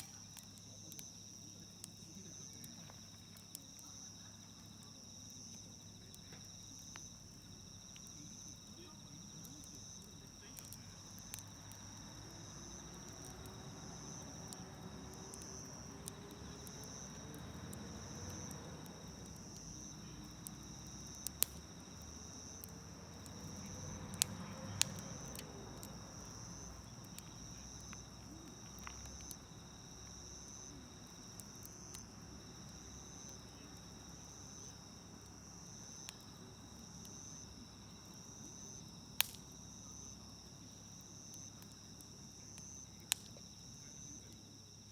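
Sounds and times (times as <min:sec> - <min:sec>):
campfire crackling: 0:00.0 - 0:44.9
insects trilling: 0:00.0 - 0:44.9.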